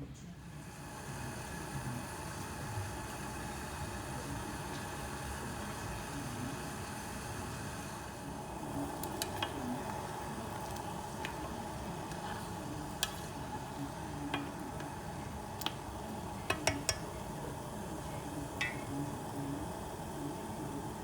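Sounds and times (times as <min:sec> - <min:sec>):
pot of water hissing: 0:00.5 - 0:21.0.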